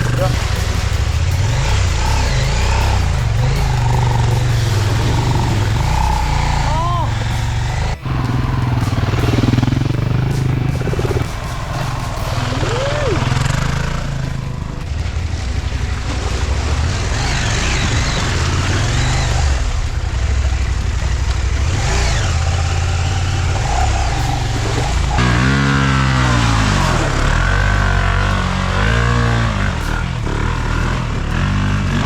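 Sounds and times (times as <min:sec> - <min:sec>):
background music: 0:00.0 - 0:32.0
motorcycle engines revving: 0:00.0 - 0:32.0.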